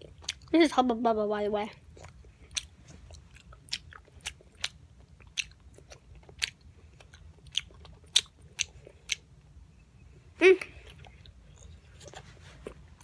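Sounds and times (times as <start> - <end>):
person chewing gum: 0.0 - 0.6, 1.7 - 9.6, 10.5 - 13.0.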